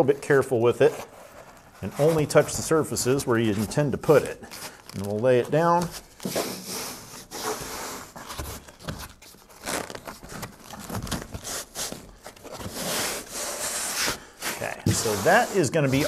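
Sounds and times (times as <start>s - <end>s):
membrane crinkling and rustling: 0.1s - 16.0s.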